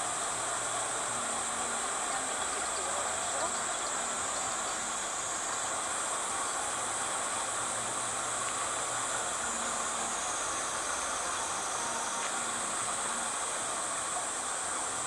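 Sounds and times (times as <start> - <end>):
rushing water hiss: 0.0 - 15.0.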